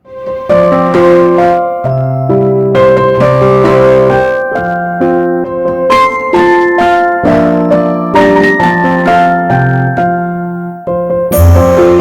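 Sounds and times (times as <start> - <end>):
electric piano music: 0.0 - 12.0.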